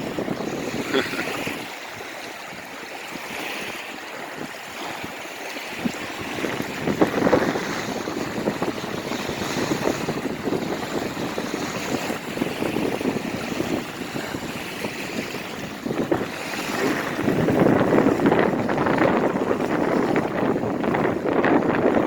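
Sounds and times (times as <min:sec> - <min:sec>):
choppy lake water: 0:00.0 - 0:22.0
wind gusting against microphone: 0:00.0 - 0:22.0.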